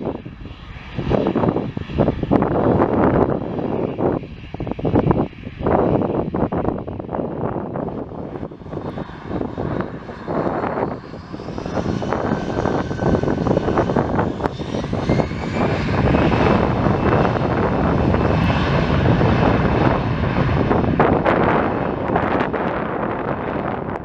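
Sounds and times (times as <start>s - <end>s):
jet engines spooling up: 0.0s - 24.0s.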